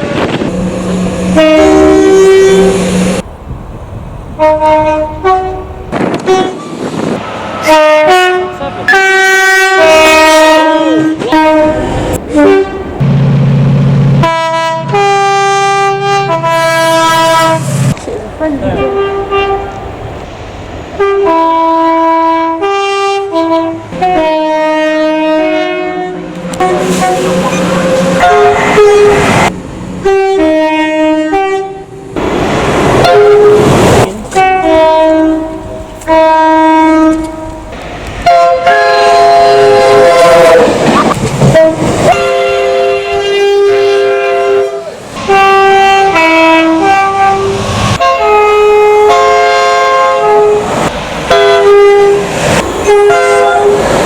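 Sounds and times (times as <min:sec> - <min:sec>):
train horn blasts: 0:00.0 - 0:03.2, 0:04.4 - 0:06.8, 0:07.6 - 0:13.0, 0:14.2 - 0:17.9, 0:18.7 - 0:19.8, 0:21.0 - 0:32.0, 0:33.0 - 0:50.7, 0:51.3 - 0:53.8
passing trains rumbling and clattering: 0:00.0 - 0:54.0.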